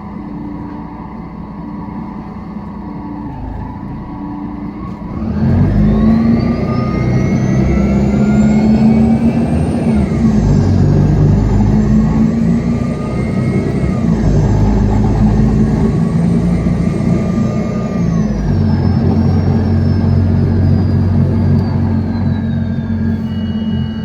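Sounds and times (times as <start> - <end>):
bus engine running: 0.0 - 24.0
whine climbing in pitch: 0.0 - 24.0.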